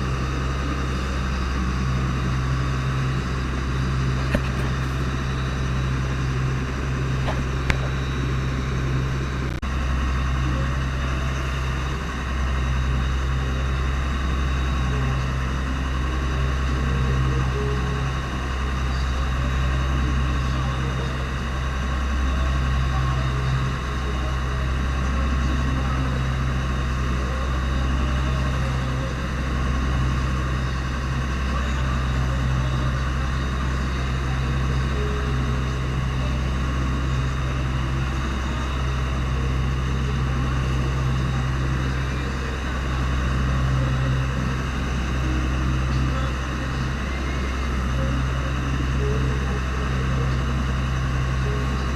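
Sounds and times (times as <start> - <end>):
boat engine droning: 0.0 - 51.9.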